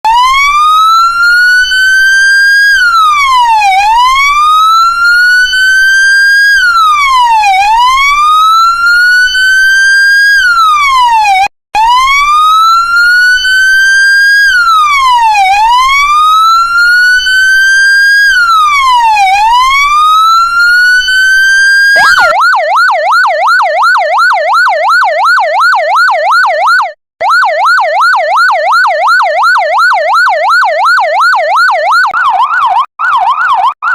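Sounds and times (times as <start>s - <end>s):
emergency vehicle siren: 0.0s - 33.9s.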